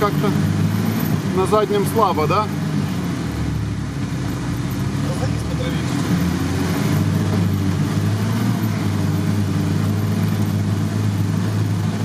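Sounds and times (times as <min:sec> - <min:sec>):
off-road vehicle engine drone: 0:00.0 - 0:12.0.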